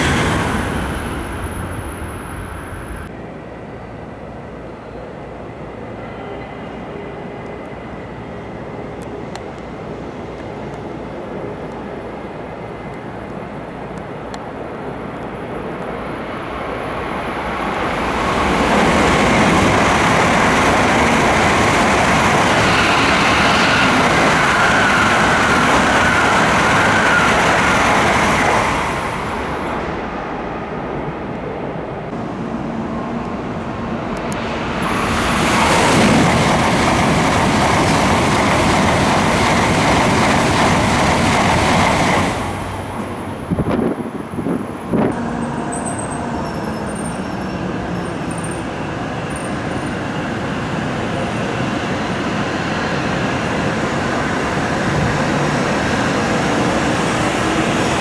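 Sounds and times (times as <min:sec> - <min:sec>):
high-speed train passing: 0:00.0 - 0:58.0.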